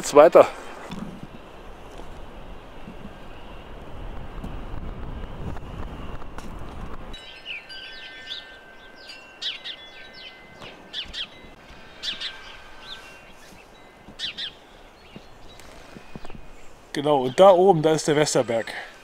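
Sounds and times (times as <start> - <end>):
songbirds chirping: 0.0 - 4.6, 7.1 - 19.0
wind buffeting microphone: 0.0 - 17.5.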